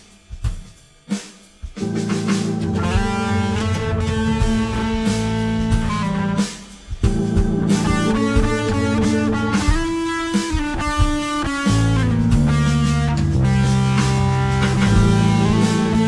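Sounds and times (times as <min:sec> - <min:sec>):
instrumental music with guitar and drums: 0:00.0 - 0:16.0.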